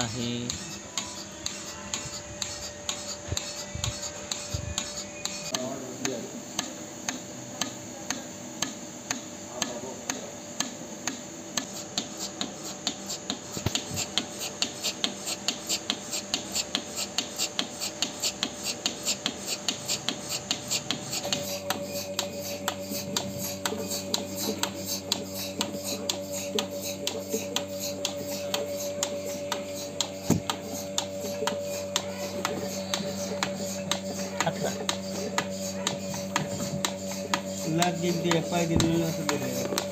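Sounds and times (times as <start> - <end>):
milking machine pulsator clicking: 0.0 - 39.9
steady hum: 0.0 - 39.9.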